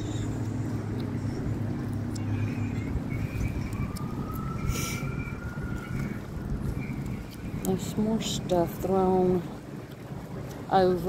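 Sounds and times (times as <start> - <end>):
distant siren wailing: 0.0 - 9.8
steady low rumble: 0.0 - 11.0.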